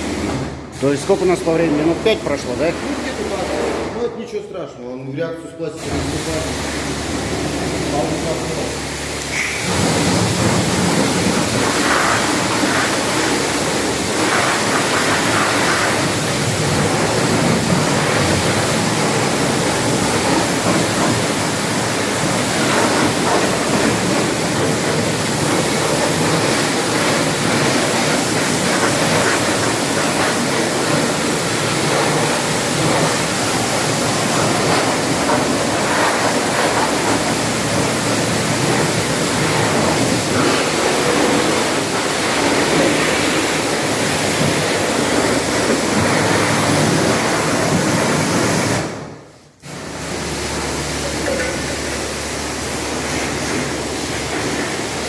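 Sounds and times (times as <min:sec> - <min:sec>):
pressure washer spraying water: 0:00.0 - 0:04.1, 0:05.6 - 0:55.0.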